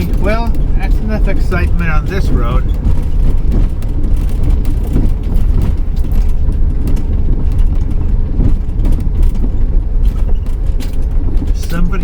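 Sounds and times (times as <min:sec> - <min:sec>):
engine and road rumble: 0:00.0 - 0:12.0
small rattles and clicks: 0:00.0 - 0:12.0.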